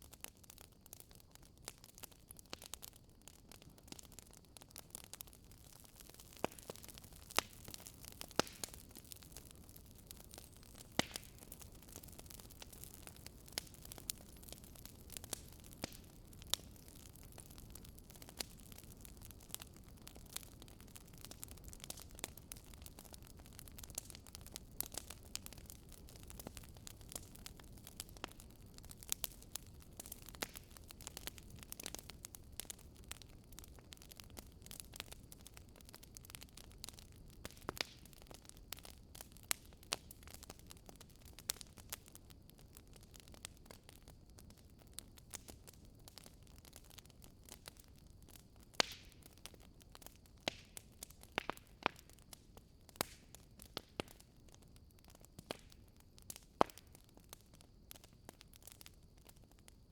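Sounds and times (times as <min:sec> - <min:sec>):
soft steady hiss: 0:00.0 - 0:59.9
wood fire crackling and popping: 0:00.0 - 0:59.9.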